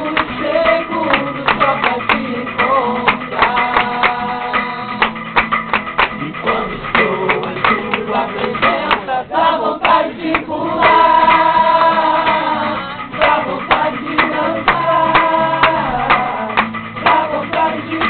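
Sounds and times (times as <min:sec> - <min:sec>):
male vocal group singing: 0:00.0 - 0:05.2, 0:06.1 - 0:18.0
rhythmic percussive strikes: 0:00.0 - 0:18.0.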